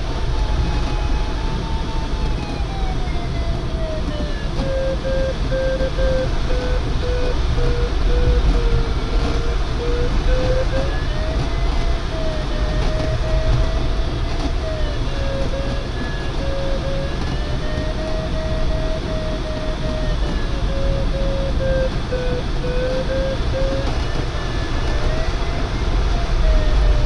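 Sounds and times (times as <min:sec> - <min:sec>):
airflow rushing around canopy: 0:02.6 - 0:27.0.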